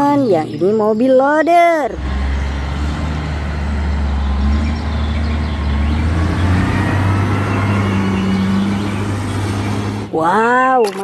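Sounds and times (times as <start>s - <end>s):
diesel engine droning: 0.0s - 10.7s.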